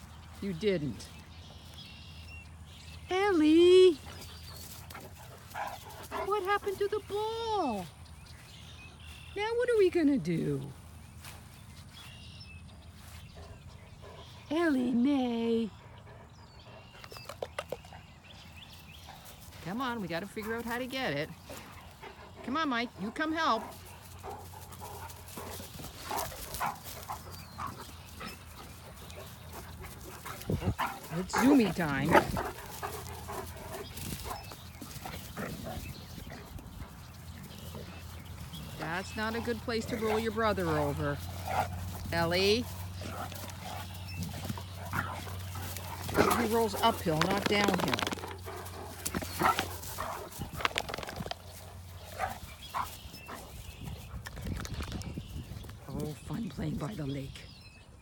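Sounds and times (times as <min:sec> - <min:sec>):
dogs rustling and scuffing on grass: 0:00.0 - 0:14.4, 0:16.5 - 0:57.7.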